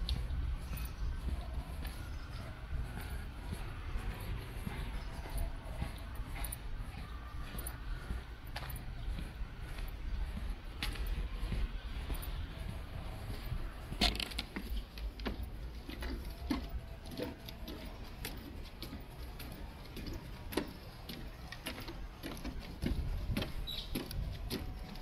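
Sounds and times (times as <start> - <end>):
footsteps on wooden planks: 0.0 - 25.0.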